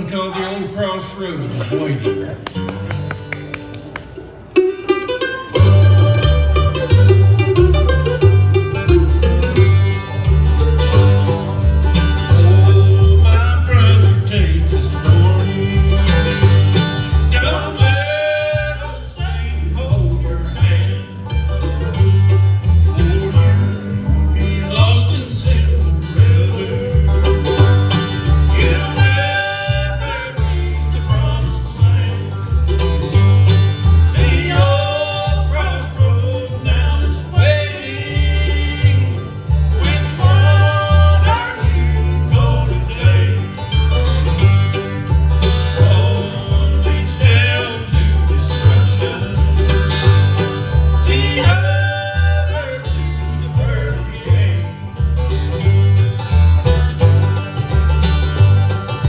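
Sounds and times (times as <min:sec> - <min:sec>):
bluegrass band playing: 0:00.0 - 0:59.0
steady bass beat: 0:05.6 - 0:59.0.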